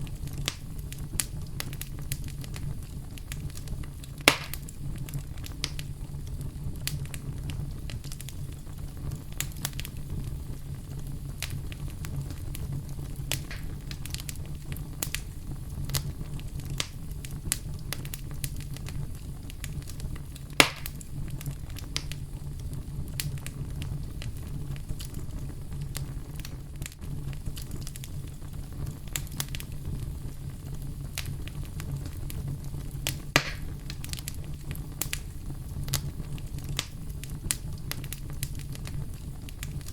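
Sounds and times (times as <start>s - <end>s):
campfire crackling and popping: 0.0s - 39.9s
low rumble of brown noise: 0.0s - 39.9s.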